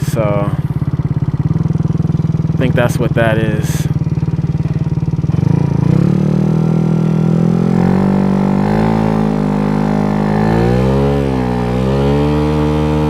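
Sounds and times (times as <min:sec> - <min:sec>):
scooter engine accelerating: 0:00.0 - 0:13.0.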